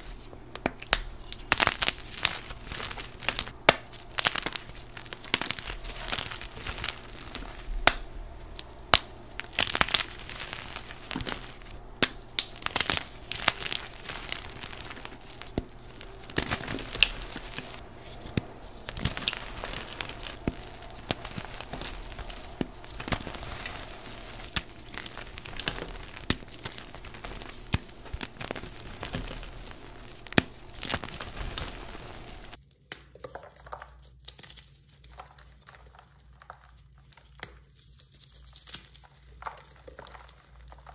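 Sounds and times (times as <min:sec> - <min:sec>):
hands crumbling chalk: 0:00.0 - 0:40.9.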